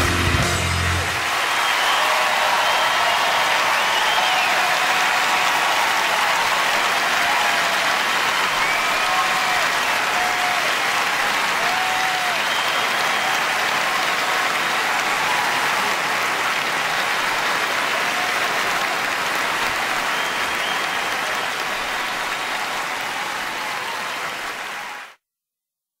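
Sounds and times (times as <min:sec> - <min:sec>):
audience applauding: 0:00.0 - 0:25.2.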